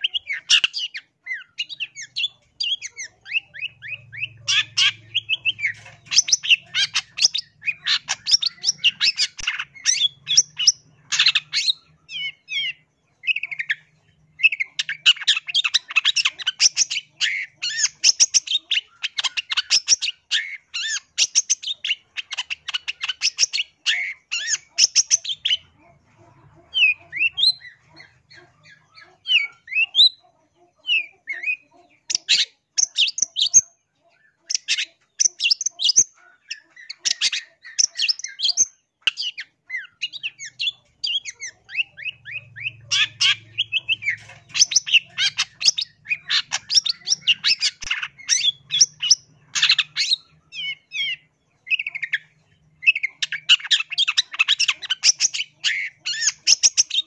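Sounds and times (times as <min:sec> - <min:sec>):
bird harsh chattering song: 0:00.0 - 0:57.0.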